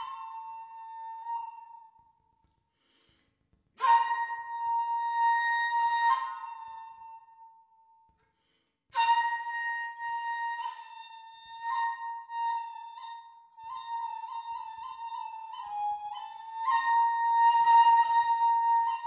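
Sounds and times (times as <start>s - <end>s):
bamboo flute playing solo: 0.0s - 2.1s, 3.8s - 7.8s, 9.0s - 19.0s.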